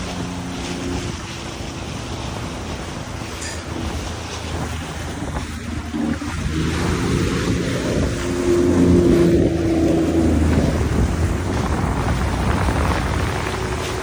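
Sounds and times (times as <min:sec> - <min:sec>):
watercraft engine humming: 0:00.0 - 0:14.0
wind buffeting microphone: 0:00.0 - 0:14.0.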